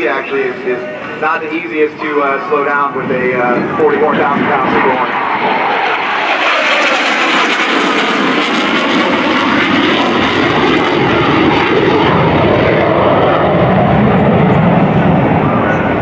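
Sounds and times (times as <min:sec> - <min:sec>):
fighter jet engines rushing: 0:00.0 - 0:16.0.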